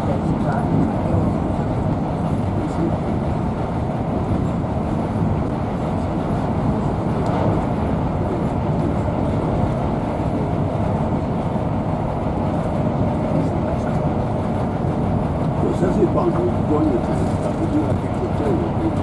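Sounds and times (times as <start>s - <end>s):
wheels rumbling on rail: 0.0s - 19.0s.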